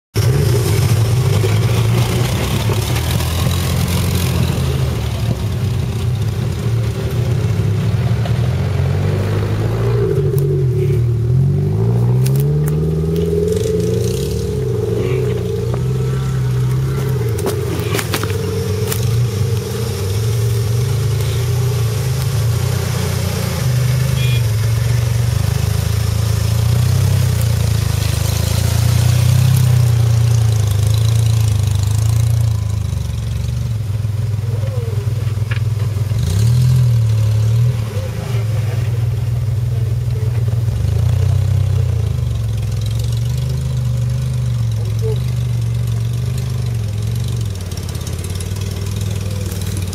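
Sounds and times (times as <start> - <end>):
off-road vehicle engine: 0.0 - 49.9.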